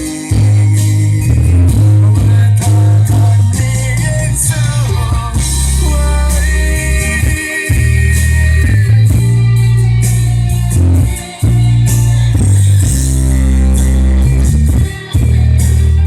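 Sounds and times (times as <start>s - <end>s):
rock ballad on stereo: 0.0s - 16.0s.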